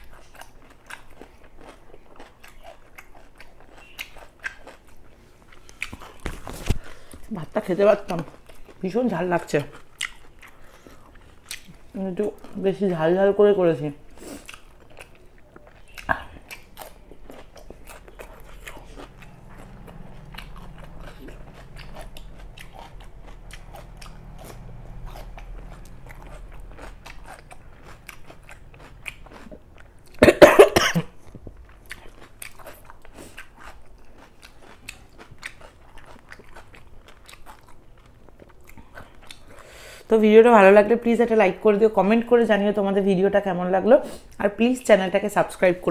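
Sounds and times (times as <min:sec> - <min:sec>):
person chewing food: 0:00.0 - 0:07.4, 0:08.0 - 0:13.0, 0:14.0 - 0:40.1.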